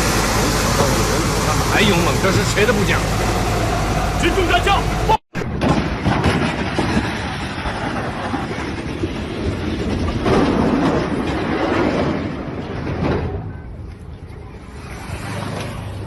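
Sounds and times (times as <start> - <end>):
heavy vehicle rumbling and rattling: 0.0 - 16.0.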